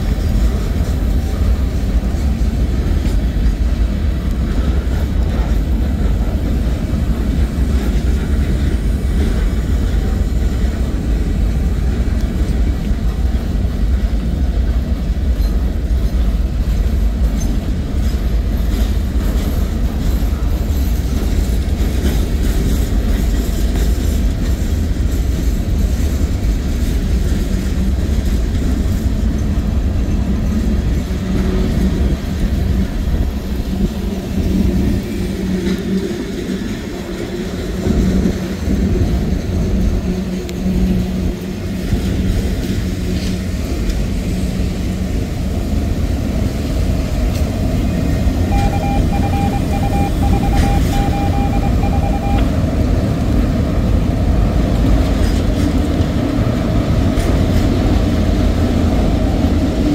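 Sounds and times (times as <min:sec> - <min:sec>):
freight cars clicking and rattling: 0:00.0 - 0:59.9
steel wheels rumbling on rails: 0:00.0 - 0:59.9.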